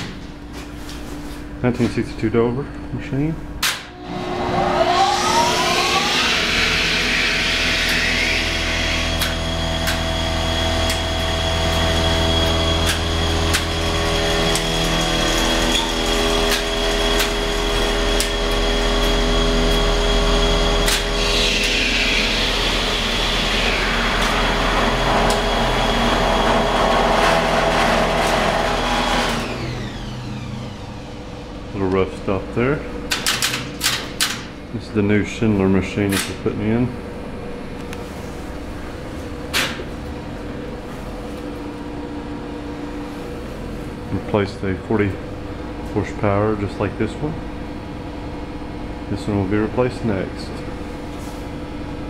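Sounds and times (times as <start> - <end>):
elevator pump motor humming: 2.4 - 52.0.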